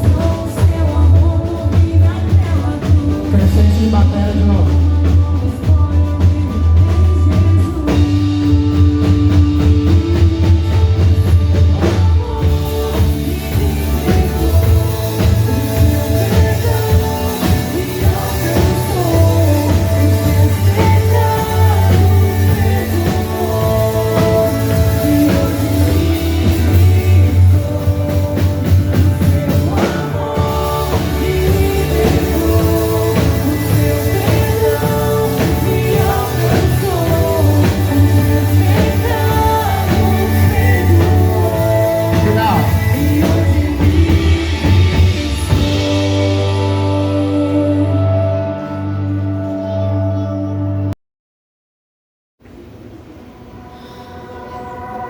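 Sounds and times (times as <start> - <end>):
drums: 0.0 - 49.6
steady bass: 0.0 - 50.9
guitar: 0.0 - 51.0
person singing: 0.0 - 51.0.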